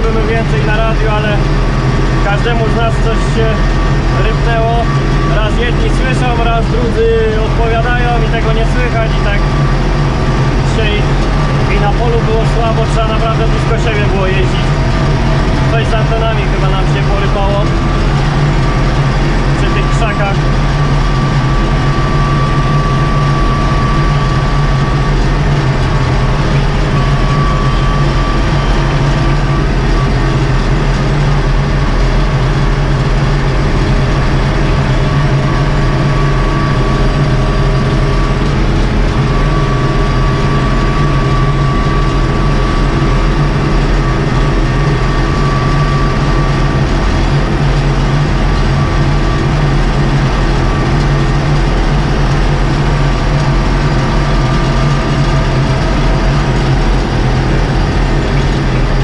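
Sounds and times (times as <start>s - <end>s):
thin high whine: 0.0s - 59.0s
tractor diesel engine running: 0.0s - 59.0s.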